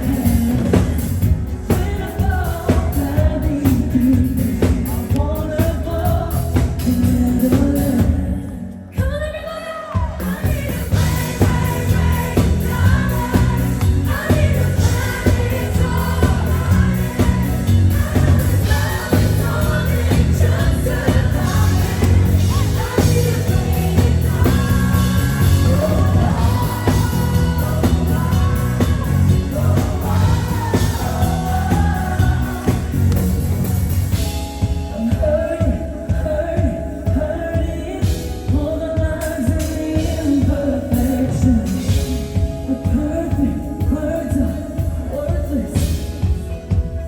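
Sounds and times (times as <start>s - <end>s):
woman singing: 0.0s - 33.2s, 34.8s - 46.4s
live pop band: 0.0s - 47.0s.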